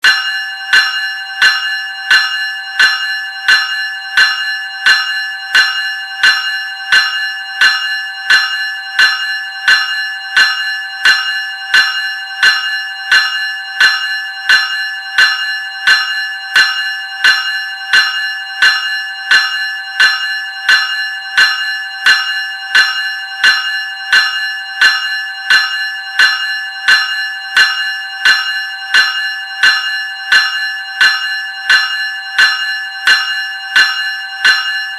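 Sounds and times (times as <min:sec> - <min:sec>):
electric bell ringing: 0:00.0 - 0:34.9.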